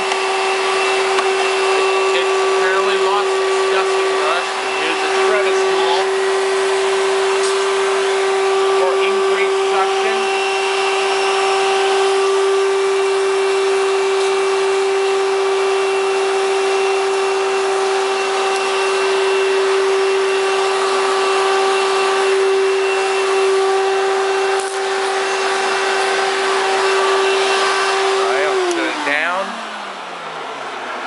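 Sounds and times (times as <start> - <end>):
vacuum cleaner motor whine: 0.0 - 31.0.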